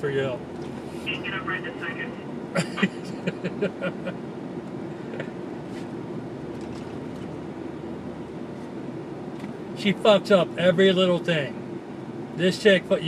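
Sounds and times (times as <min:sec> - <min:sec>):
car cabin hum: 0:00.0 - 0:13.0.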